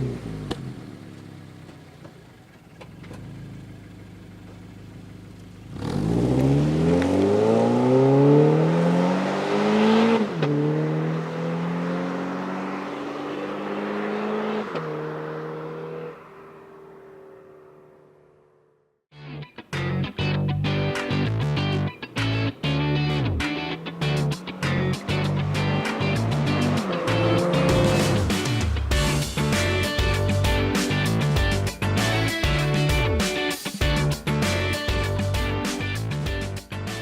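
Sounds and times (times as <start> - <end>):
car exhaust accelerating: 0.0 - 18.9, 21.3 - 32.2.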